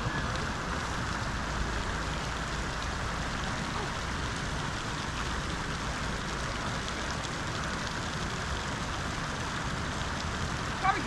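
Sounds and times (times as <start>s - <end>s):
rushing water hiss: 0.0s - 11.0s.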